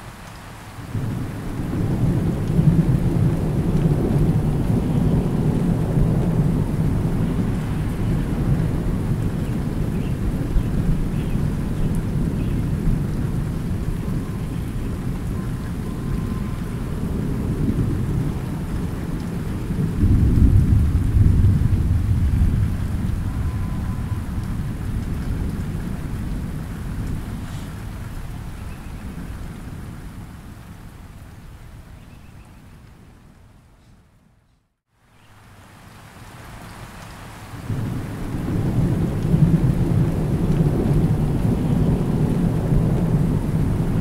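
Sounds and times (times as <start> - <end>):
rain falling: 0.0 - 44.0
thunder rumbling: 0.9 - 30.8, 37.6 - 44.0.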